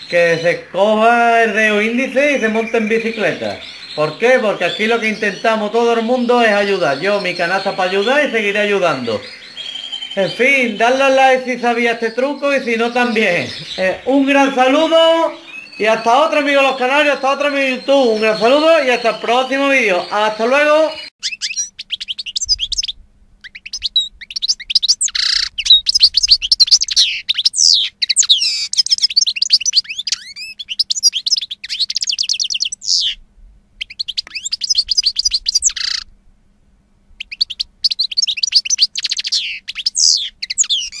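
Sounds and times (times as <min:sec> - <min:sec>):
canaries singing: 0:00.0 - 0:33.2, 0:33.8 - 0:36.1, 0:37.2 - 0:41.0.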